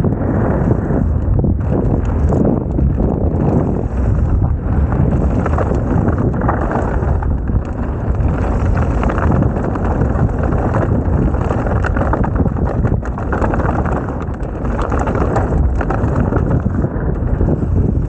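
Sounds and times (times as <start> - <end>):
bike tyres rolling on dirt: 0.0 - 18.0
wind noise on microphone: 0.0 - 18.0
bike knocks and rattles: 1.2 - 18.0.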